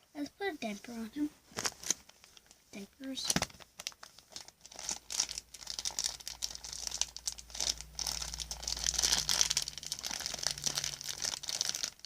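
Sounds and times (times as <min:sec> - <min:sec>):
plastic packaging crinkling: 0:01.5 - 0:12.0.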